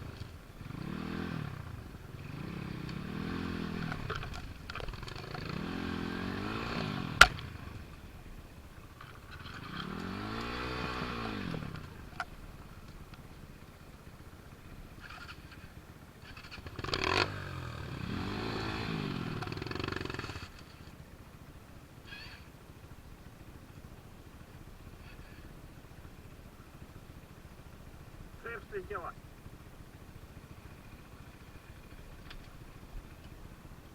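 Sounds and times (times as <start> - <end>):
motorcycle engine revving: 0.0 - 21.3, 23.3 - 28.6, 29.4 - 33.9.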